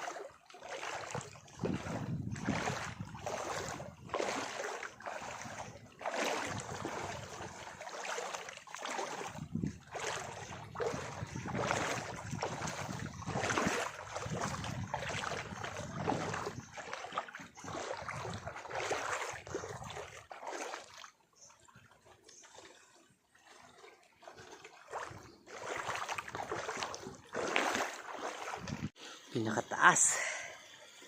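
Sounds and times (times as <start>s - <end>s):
water rushing: 0.0s - 21.0s, 23.5s - 30.5s
wind: 0.0s - 31.0s.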